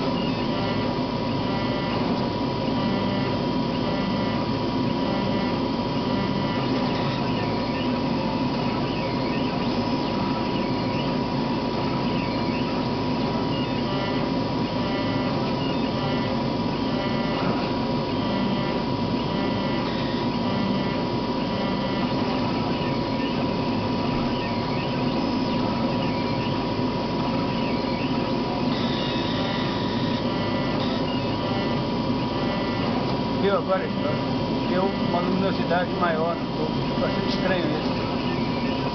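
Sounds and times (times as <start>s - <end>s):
faint chirps: 0.0s - 36.0s
high whine: 0.0s - 38.9s
laser cutter humming: 0.0s - 38.9s.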